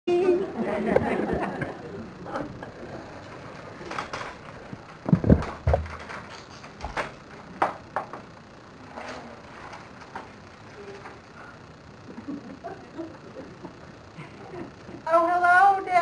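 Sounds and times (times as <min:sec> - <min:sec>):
low background hiss: 0:00.1 - 0:16.0.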